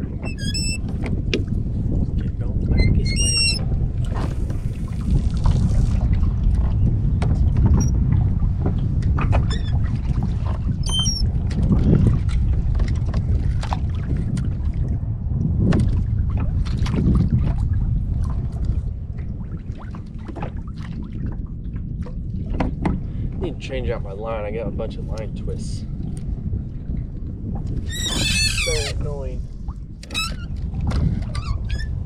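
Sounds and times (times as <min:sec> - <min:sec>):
kayak low rumble on water: 0:00.0 - 0:32.0.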